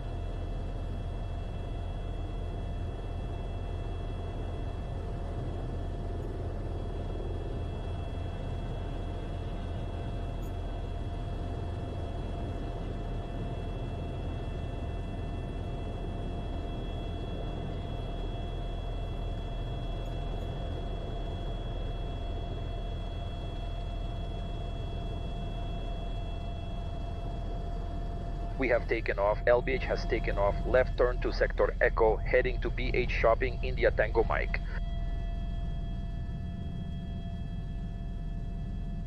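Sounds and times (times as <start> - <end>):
helicopter engine and rotor: 0.0 - 39.0.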